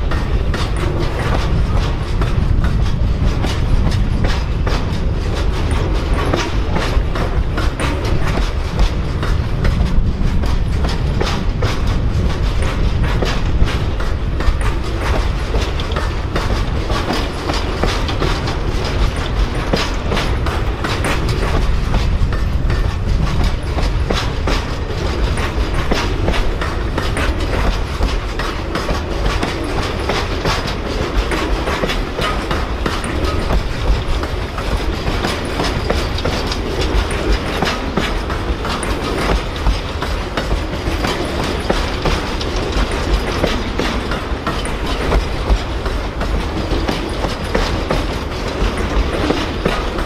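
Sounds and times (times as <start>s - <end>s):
train cars rumbling past: 0.0s - 50.0s
wheel clicks on rail joints: 0.0s - 50.0s.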